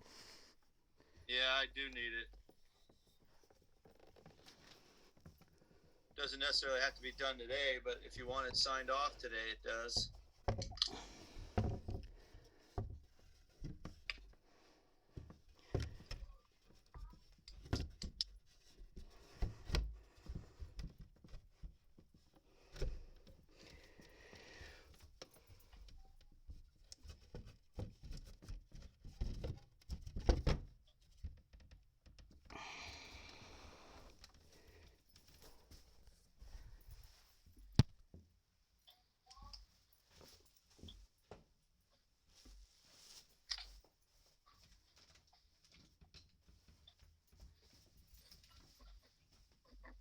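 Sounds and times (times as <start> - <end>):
rustling handling noise: 0.0 - 32.4, 33.0 - 50.0.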